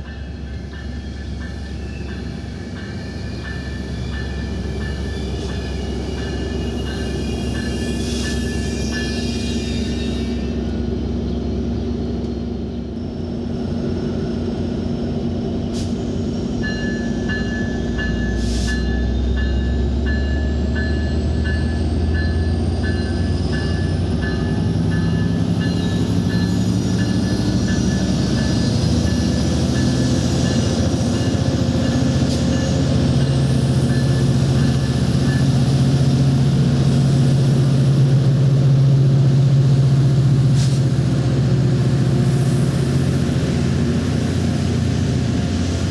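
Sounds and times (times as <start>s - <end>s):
train passing rumble: 0.0s - 45.9s.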